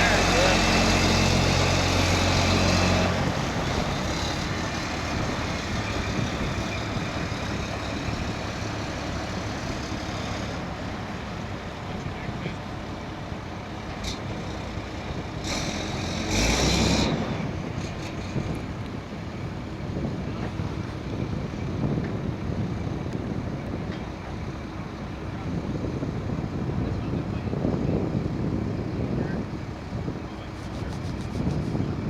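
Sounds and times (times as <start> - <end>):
diesel boat engine rumbling: 0.0 - 32.0.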